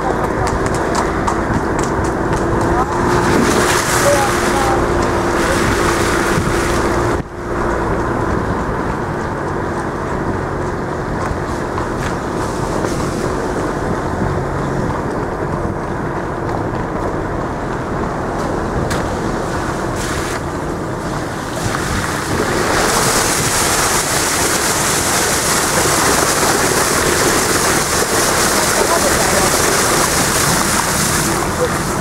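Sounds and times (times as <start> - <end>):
outdoor rushing noise: 0.0 - 32.0
wind buffeting microphone: 0.0 - 32.0.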